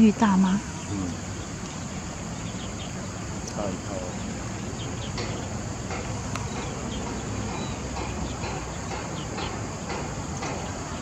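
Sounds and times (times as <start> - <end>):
high bird chirps: 0.0 - 11.0.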